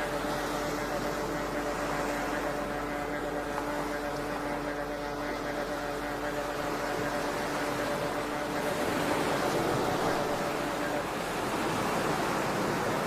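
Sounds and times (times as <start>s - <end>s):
low hum: 0.0s - 13.0s
ocean waves washing: 0.0s - 13.0s.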